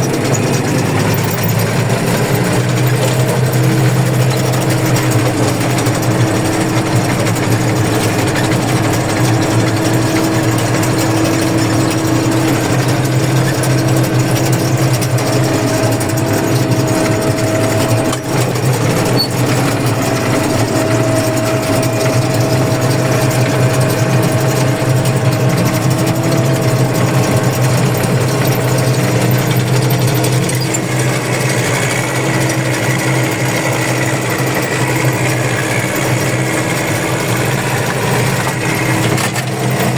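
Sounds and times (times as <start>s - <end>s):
machinery engine drone: 0.0s - 39.9s.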